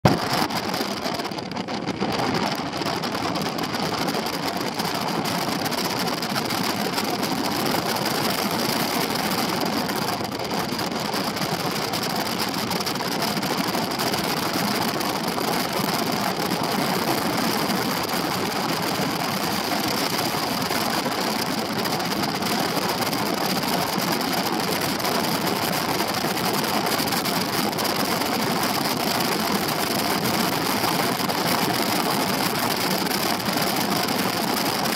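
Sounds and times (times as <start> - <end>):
wind noise on microphone: 0.0 - 34.9.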